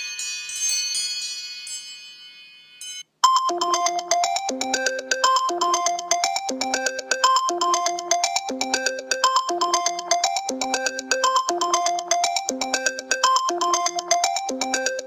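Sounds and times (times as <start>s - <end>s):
bell-like ringtone: 0.0s - 15.0s
fast bright ringtone melody: 1.4s - 15.0s.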